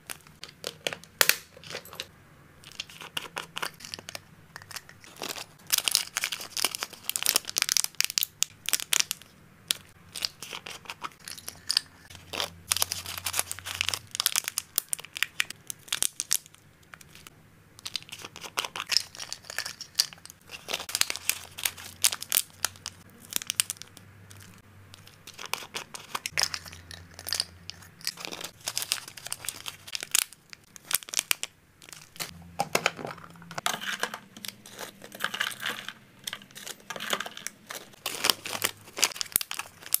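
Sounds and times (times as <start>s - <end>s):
plastic bags crinkling: 2.7s - 40.0s.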